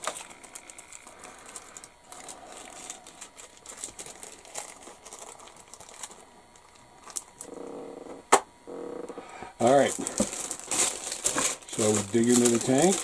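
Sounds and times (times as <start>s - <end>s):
plastic packaging crinkling: 0.0s - 7.5s, 9.6s - 13.0s.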